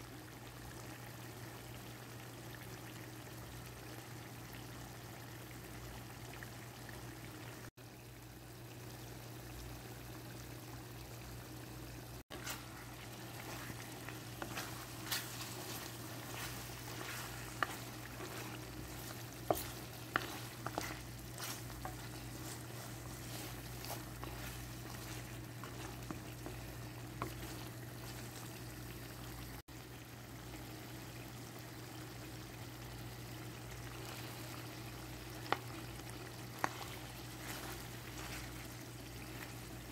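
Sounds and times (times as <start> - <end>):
curry sizzling in a pot: 0.0 - 39.9.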